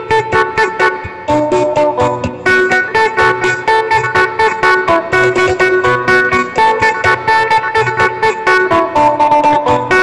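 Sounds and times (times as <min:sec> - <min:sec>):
plucked lute fast picked notes: 0:00.0 - 0:10.0.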